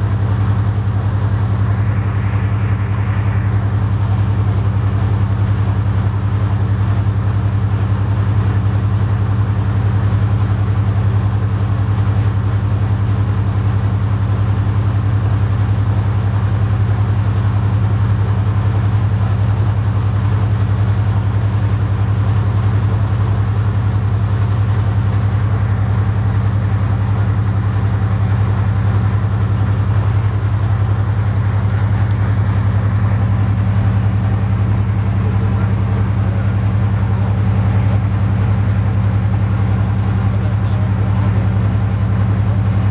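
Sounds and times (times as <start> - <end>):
locomotive diesel engine idling: 0.0 - 42.9.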